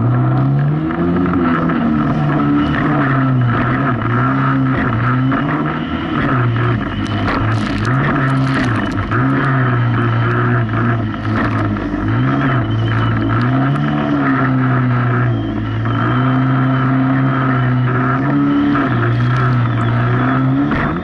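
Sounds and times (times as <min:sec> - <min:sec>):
jet ski engine running hard: 0:00.0 - 0:21.0.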